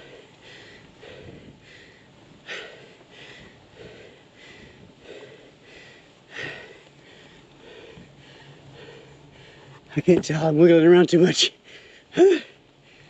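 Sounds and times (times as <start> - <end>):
heavy rhythmic breathing: 0.0 - 10.6, 11.4 - 13.0.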